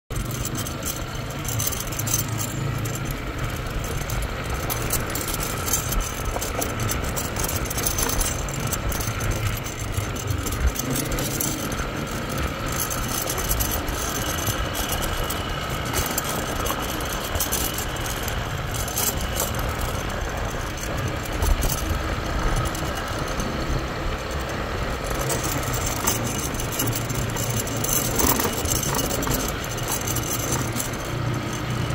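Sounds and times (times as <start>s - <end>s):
rattling over bumps: 0.1s - 31.9s
scooter engine rumble: 0.1s - 31.9s.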